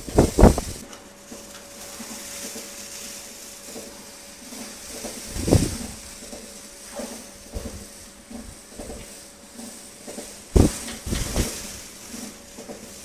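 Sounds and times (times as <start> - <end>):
electric brush humming: 0.0 - 0.8, 1.8 - 9.7, 10.4 - 13.0.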